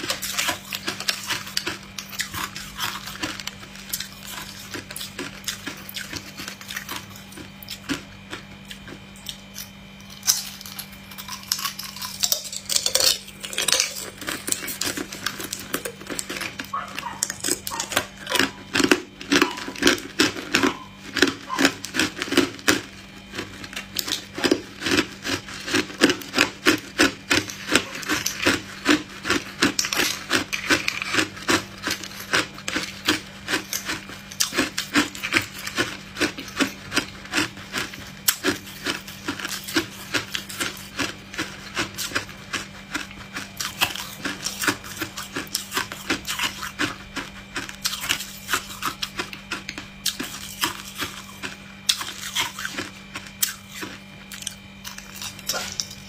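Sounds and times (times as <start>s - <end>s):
ice cubes crunched by teeth: 0.0s - 56.0s.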